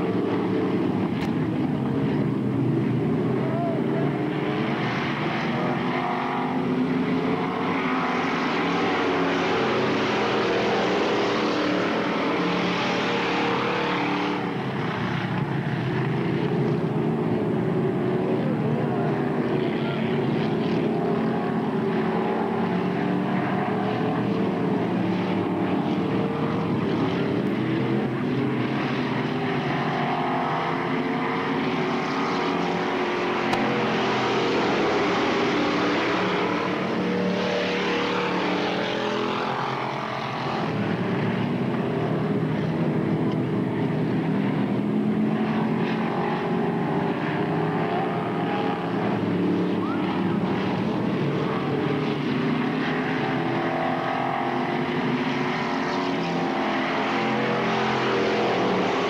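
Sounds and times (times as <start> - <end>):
racing car engines revving: 0.0 - 59.0.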